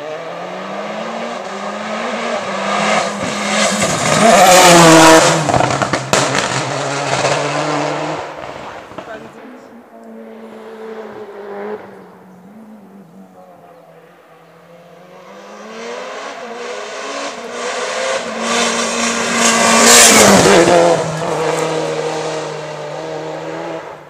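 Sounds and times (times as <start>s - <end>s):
race car engine passing: 0.0s - 24.0s.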